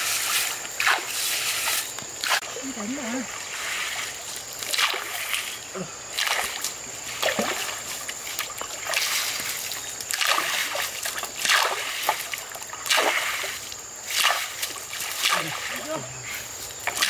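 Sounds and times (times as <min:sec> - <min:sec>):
splashes in shallow stream: 0:00.0 - 0:17.0.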